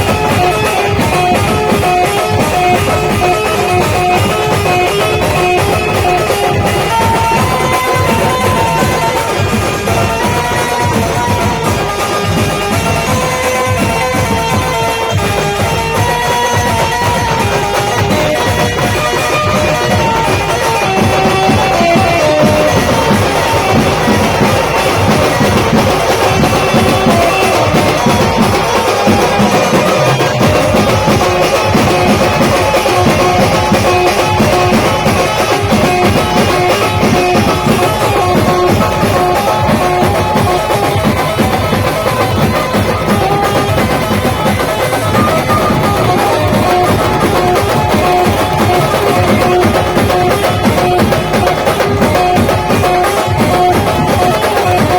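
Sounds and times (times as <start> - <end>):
busy steady drum beat: 0.0 - 54.9
melodic lead instrument: 0.0 - 54.9.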